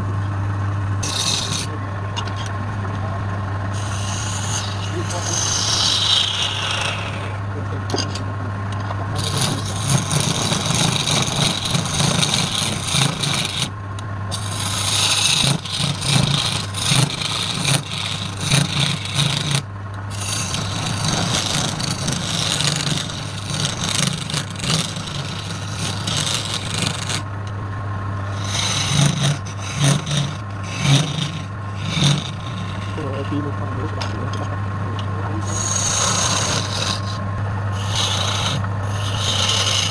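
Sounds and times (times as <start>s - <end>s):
wood lathe humming: 0.9s - 2.2s, 2.8s - 7.6s, 9.1s - 27.4s, 28.2s - 33.6s, 35.4s - 39.9s
tool scraping spinning wood: 1.0s - 8.2s, 9.1s - 27.6s, 28.2s - 34.5s, 35.4s - 39.9s.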